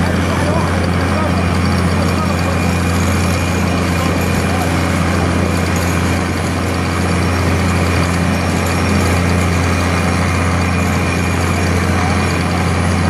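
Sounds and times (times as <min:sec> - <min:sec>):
vibratory hammer droning: 0:00.0 - 0:13.0.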